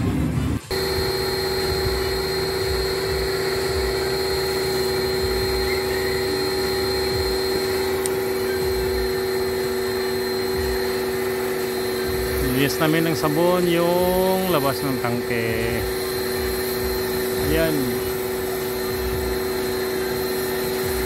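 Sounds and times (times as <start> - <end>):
motor whining and humming: 0.0 - 21.0.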